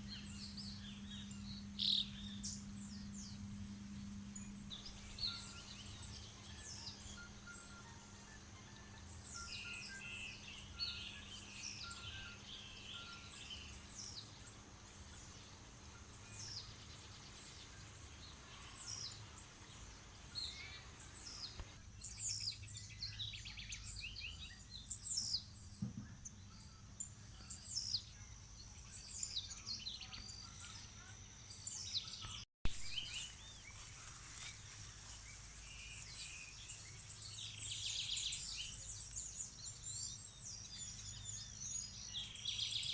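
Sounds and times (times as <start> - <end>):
faint low hum: 0.0 - 42.6
birds chirping and singing: 0.0 - 42.9.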